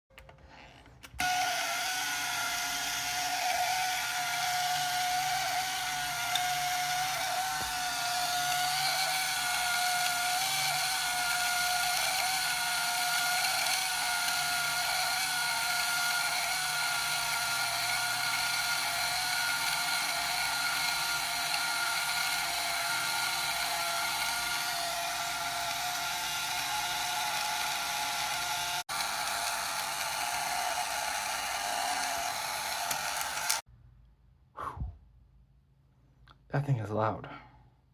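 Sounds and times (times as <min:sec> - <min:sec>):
camera motor winding film: 0:01.1 - 0:33.6.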